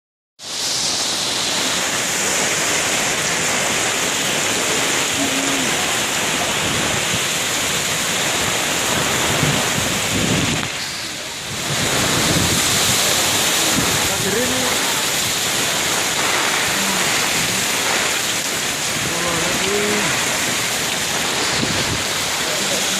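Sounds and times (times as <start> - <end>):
heavy rain pouring: 0.4 - 22.9
wind gusts on microphone: 0.5 - 22.9.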